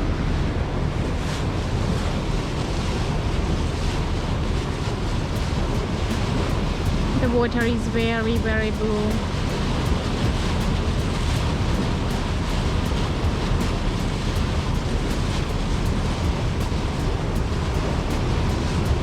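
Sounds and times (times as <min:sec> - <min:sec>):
heavy low rumble: 0:00.0 - 0:19.0
water rushing past boat: 0:00.0 - 0:19.0
wind rushing: 0:00.0 - 0:19.0.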